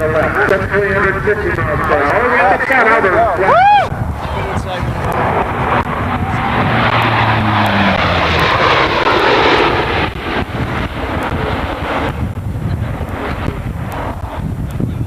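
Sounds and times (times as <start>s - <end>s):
turboprop aircraft passing low: 0.0s - 15.0s.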